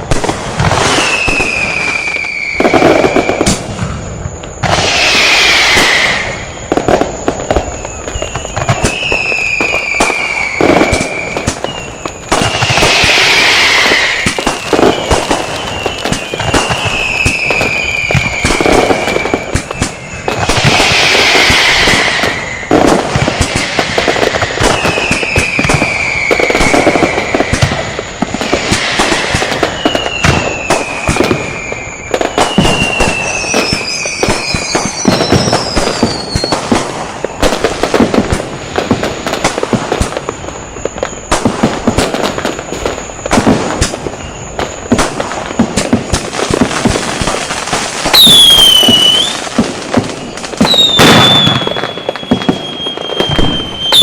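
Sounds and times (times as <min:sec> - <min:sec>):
firecracker bangs and crackles: 0:00.0 - 0:54.0
firework whistles: 0:00.0 - 0:54.0.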